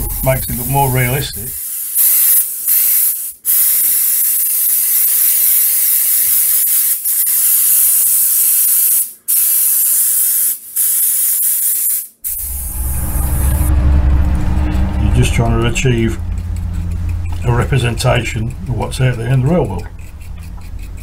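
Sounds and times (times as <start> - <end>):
airbrush hissing: 0.0 - 13.7, 15.8 - 21.0.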